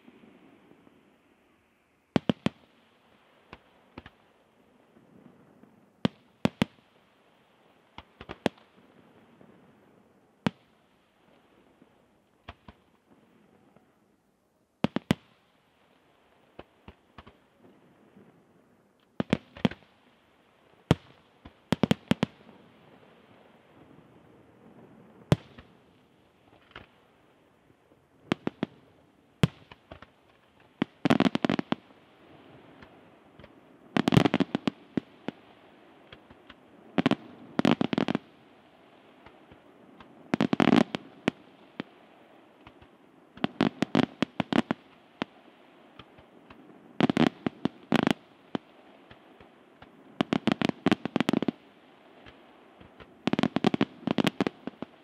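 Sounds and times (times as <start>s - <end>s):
fireworks bursting: 0.0s - 9.8s, 10.4s - 13.8s, 14.8s - 18.4s, 19.0s - 55.0s.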